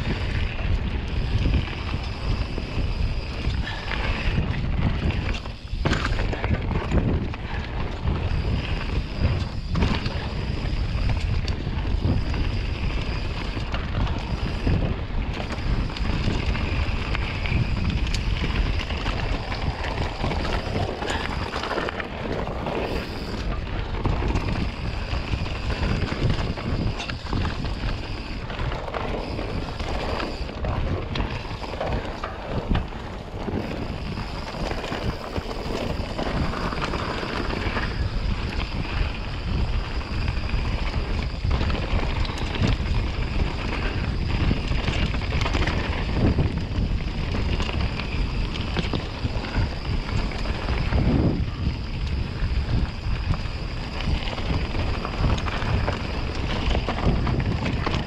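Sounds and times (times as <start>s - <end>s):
bike rattles and knocks: 0.0s - 58.0s
bike tyres rolling on dirt: 0.0s - 58.0s
wind buffeting microphone: 0.0s - 58.0s.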